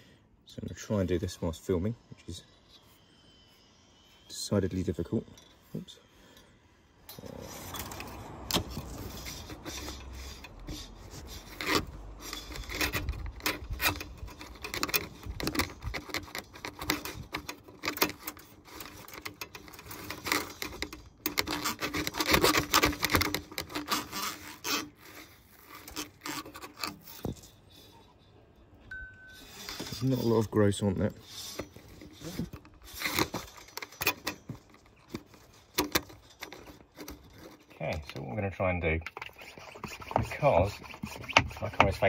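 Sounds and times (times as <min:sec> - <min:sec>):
cable scraping in drain tube: 0:07.1 - 0:28.4, 0:29.4 - 0:42.0.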